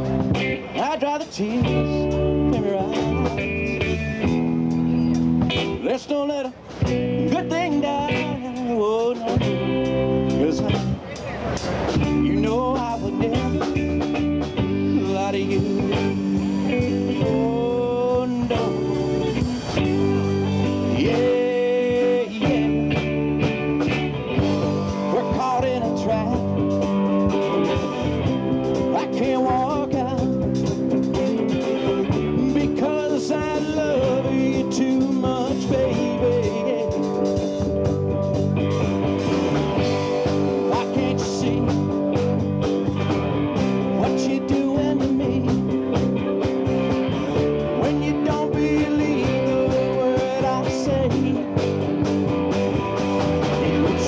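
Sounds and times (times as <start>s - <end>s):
man singing: 0.0s - 4.6s, 5.6s - 11.0s, 11.9s - 26.8s, 27.8s - 37.7s, 39.8s - 42.2s, 43.6s - 46.6s, 47.2s - 51.9s, 53.4s - 54.0s
drum kit: 0.0s - 54.0s
electric guitars: 0.0s - 54.0s.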